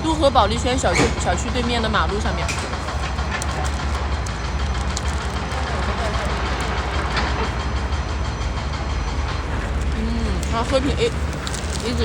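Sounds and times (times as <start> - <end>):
low mechanical hum with flutter: 0.0 - 12.0.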